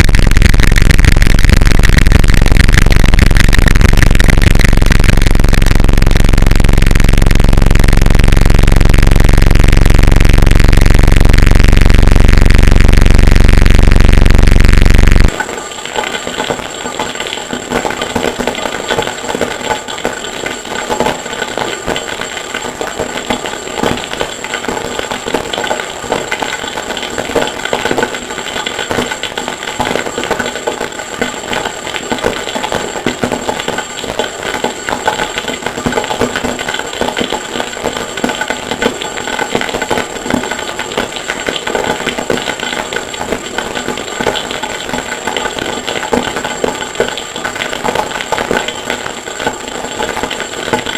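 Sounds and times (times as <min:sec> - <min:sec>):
crackling and clattering noise: 0:00.0 - 0:50.9
high-pitched whine: 0:00.0 - 0:50.9.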